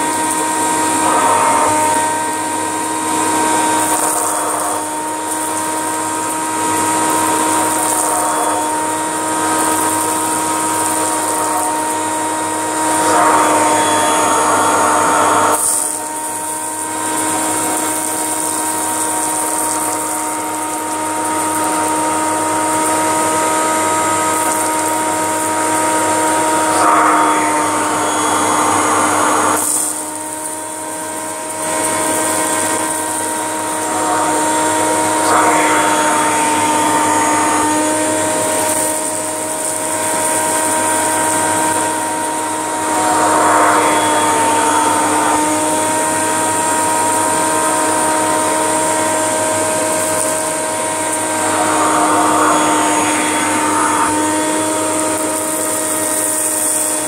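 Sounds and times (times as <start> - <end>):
rice rattling up hose: 0.0 - 57.0
vacuum cleaner motor whining: 0.0 - 57.0.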